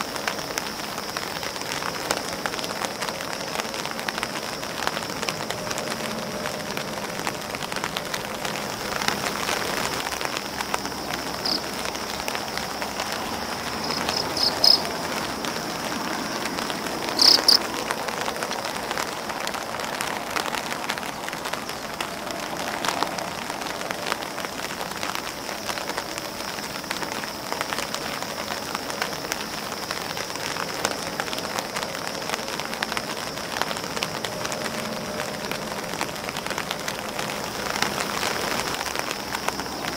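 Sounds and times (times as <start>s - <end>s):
rain pattering on umbrella and grass: 0.0s - 39.9s.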